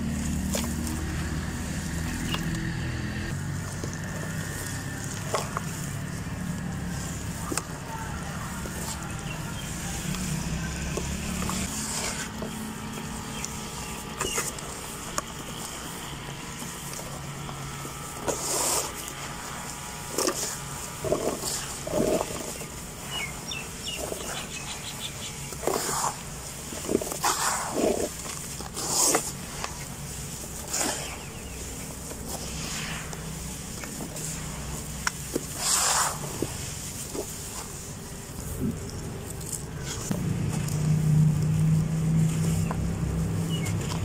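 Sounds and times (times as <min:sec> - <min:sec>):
gritty dirt crunches: 0:00.0 - 0:44.0.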